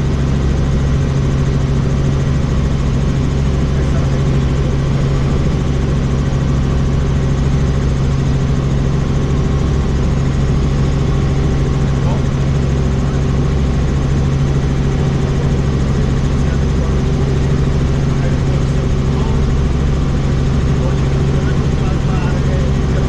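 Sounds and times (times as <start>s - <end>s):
helicopter rotor and engine drone: 0.0s - 23.0s.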